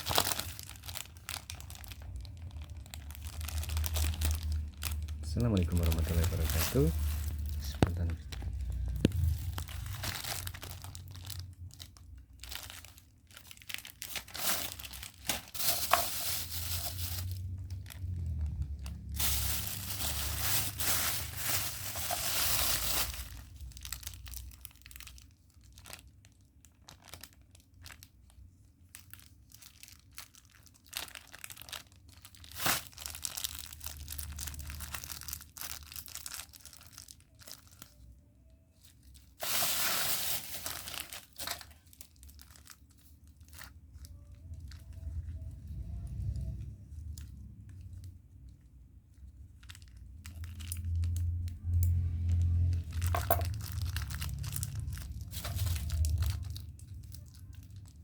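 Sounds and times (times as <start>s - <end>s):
plastic packaging crinkling and tearing: 0.0s - 58.0s.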